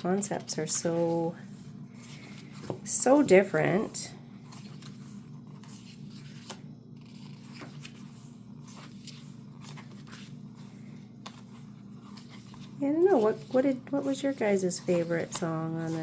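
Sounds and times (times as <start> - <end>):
faint paper rustles: 0.0 - 16.0
steady low hum: 0.0 - 16.0.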